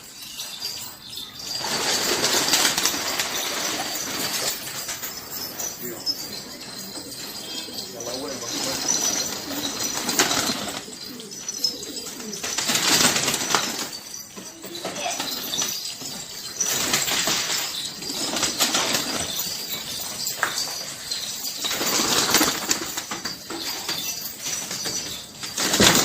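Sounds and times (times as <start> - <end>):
pigeons beating wings: 0.0 - 26.0.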